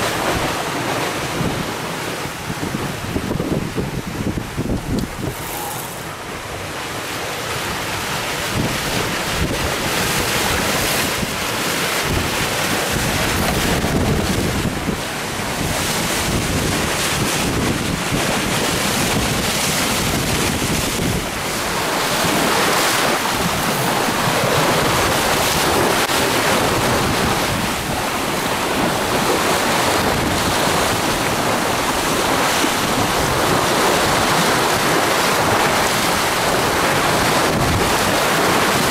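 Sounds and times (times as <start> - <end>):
water splashing along boat hull: 0.0 - 38.9
wind buffeting microphone: 1.2 - 6.8, 7.7 - 38.9.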